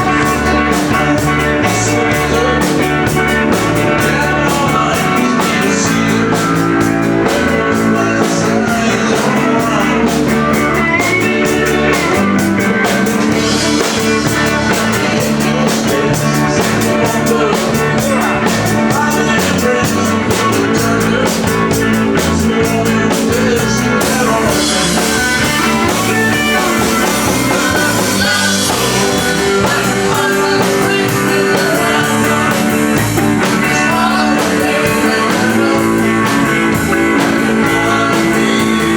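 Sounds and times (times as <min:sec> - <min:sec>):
live band playing country-rock: 0:00.0 - 0:38.9.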